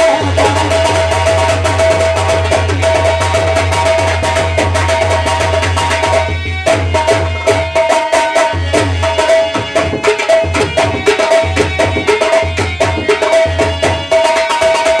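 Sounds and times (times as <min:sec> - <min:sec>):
held melodic tone: 0:00.0 - 0:14.8
fast hand-drum strokes: 0:00.0 - 0:15.0.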